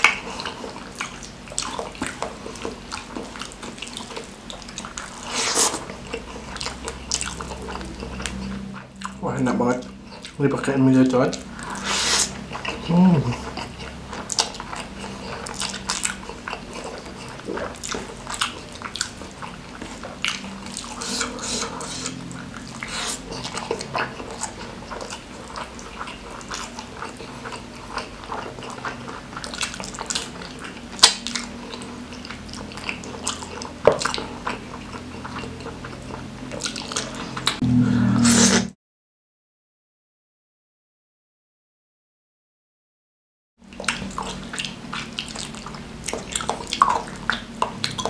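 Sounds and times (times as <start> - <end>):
wet chewing and lip smacking: 0.0 - 9.2, 9.8 - 10.4, 11.2 - 37.6, 43.6 - 48.0.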